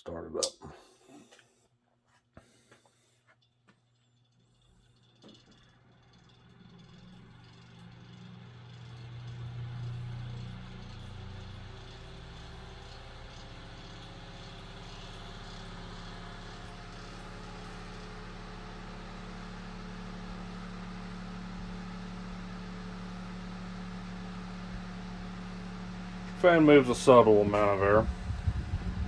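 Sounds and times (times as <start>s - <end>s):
fan blade vibration noise: 2.5s - 29.0s
table fan motor hum: 3.6s - 29.0s.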